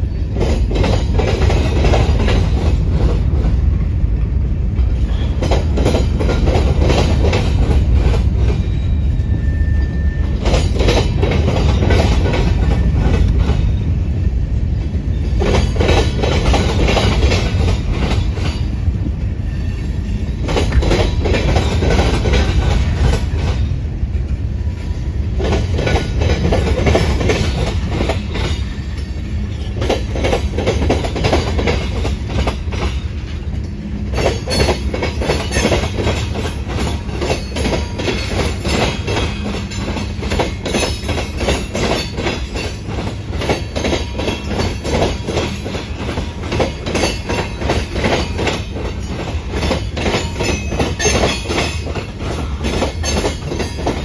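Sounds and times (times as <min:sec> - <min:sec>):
freight train rumbling past: 0:00.0 - 0:54.0
train wheels clickety-clack: 0:00.0 - 0:54.0.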